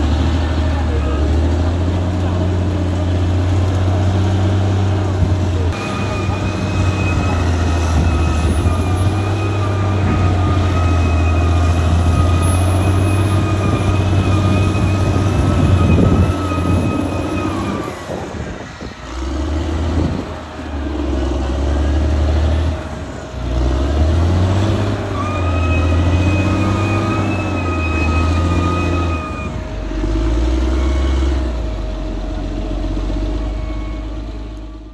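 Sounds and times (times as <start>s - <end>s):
bulldozer diesel engine revving: 0.0s - 34.9s.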